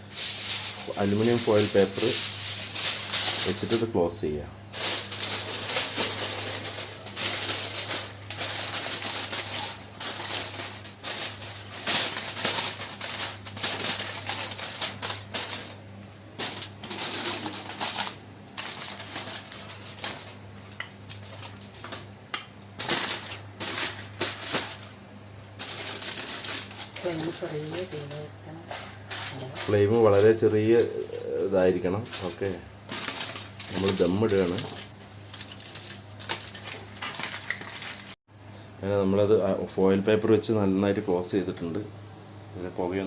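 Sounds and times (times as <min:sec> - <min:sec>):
aluminium foil crinkling: 0:00.0 - 0:22.1, 0:22.8 - 0:25.0, 0:25.6 - 0:38.2.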